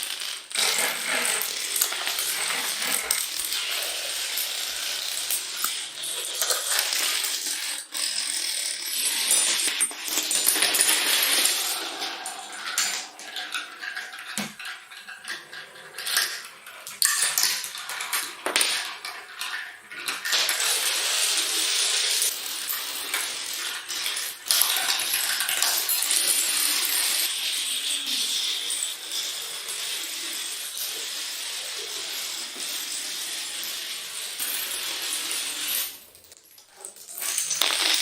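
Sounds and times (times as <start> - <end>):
dominoes clattering: 0.0 - 38.0.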